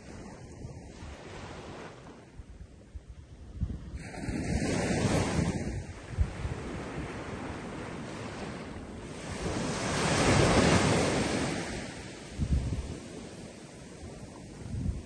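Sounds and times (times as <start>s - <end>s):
small waves breaking on beach: 0.0s - 15.0s
wind buffeting microphone: 0.0s - 15.0s.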